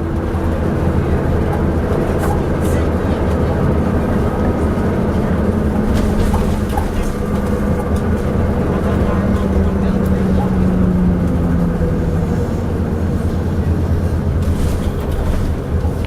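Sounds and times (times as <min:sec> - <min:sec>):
bus clanking and rattling: 0:00.0 - 0:16.0
bus diesel engine running: 0:00.0 - 0:16.0.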